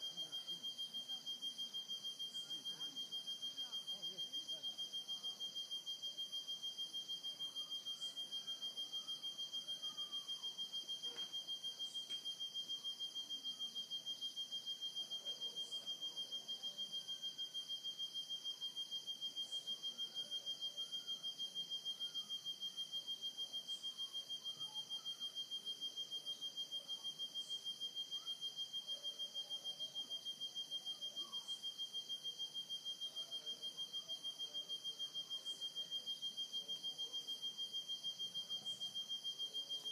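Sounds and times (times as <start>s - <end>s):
cicada singing: 6.6s - 39.9s.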